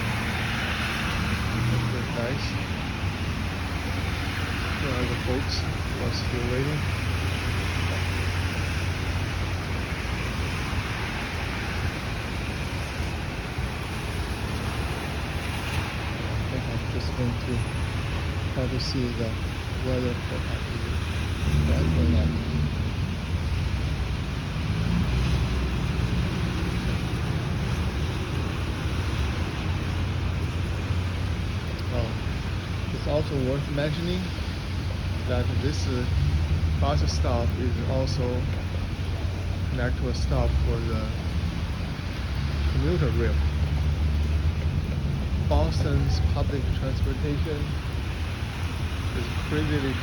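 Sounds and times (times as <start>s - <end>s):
heavy rain hissing: 0.0s - 50.0s
traffic engine hum: 0.0s - 50.0s.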